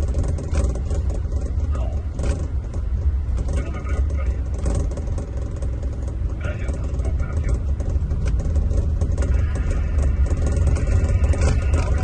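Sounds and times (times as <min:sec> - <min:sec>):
coach diesel engine droning: 0:00.0 - 0:12.0.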